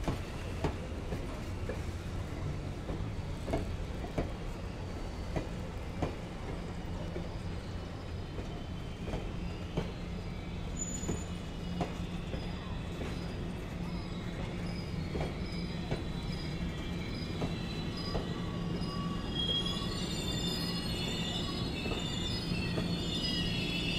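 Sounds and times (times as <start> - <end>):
train cars rumbling on track: 0.0 - 23.9.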